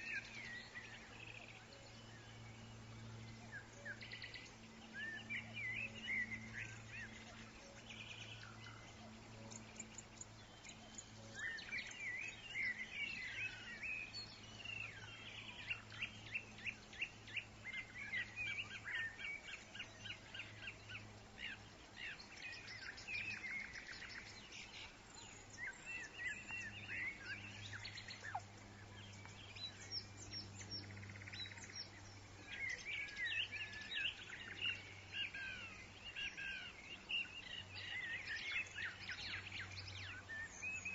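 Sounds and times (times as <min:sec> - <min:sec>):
birds chirping and trilling: 0:00.0 - 0:40.9
faint low hum: 0:00.0 - 0:40.9.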